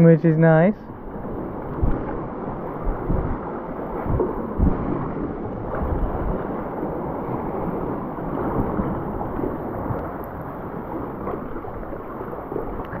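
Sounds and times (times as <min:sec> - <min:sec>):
wind rumble on microphone: 0:00.0 - 0:13.0
water sloshing around kayak hull: 0:00.9 - 0:13.0.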